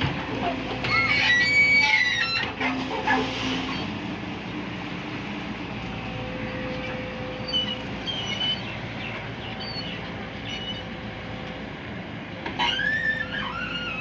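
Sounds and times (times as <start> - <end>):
engine whine: 0.0 - 14.0
excavator diesel engine rumbling: 0.0 - 14.0.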